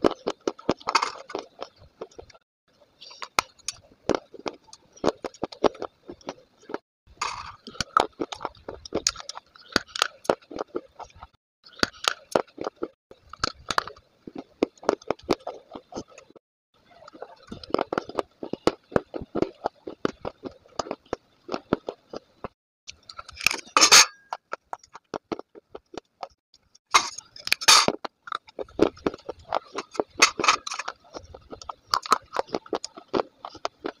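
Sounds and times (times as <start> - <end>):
person chewing brittle clay: 0.0 - 2.4, 3.0 - 6.8, 7.4 - 34.0.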